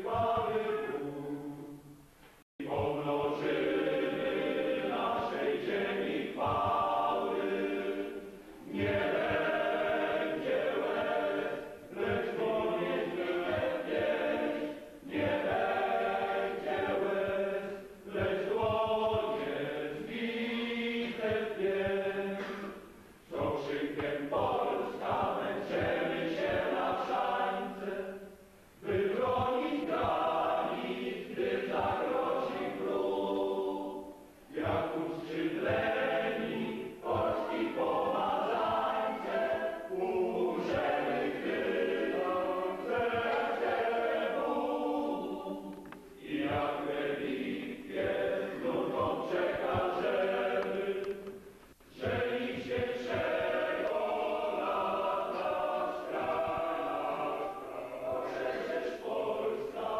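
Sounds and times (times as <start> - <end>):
group singing a hymn: 0.0 - 59.9.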